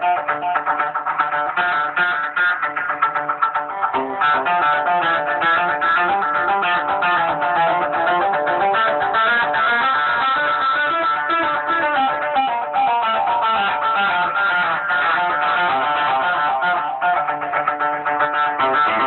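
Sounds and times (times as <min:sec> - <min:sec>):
electric guitar quick picked notes: 0:00.0 - 0:19.0.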